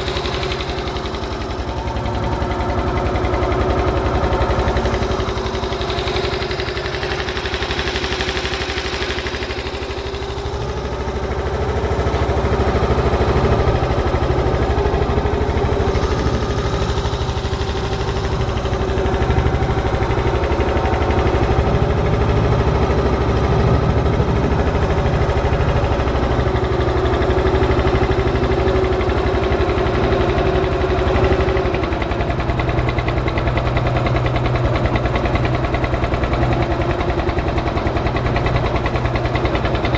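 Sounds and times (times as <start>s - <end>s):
boat motor running: 0.0s - 39.9s.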